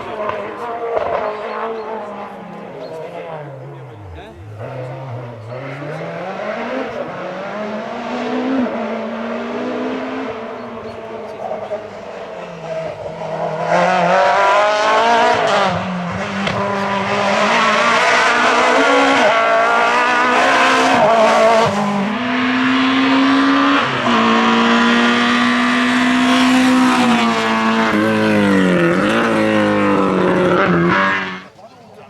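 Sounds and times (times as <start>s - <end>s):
rally car engine revving: 0.0s - 31.6s.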